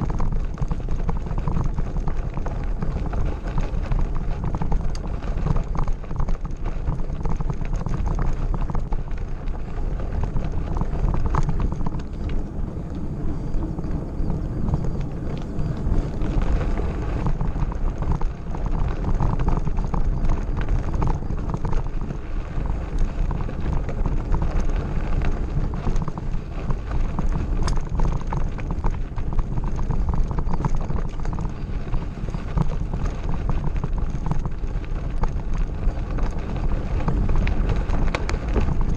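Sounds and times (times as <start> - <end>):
bike rattling and clicking: 0.0 - 38.9
tyres rumbling on gravel: 0.0 - 38.9
wind buffeting microphone: 0.0 - 38.9.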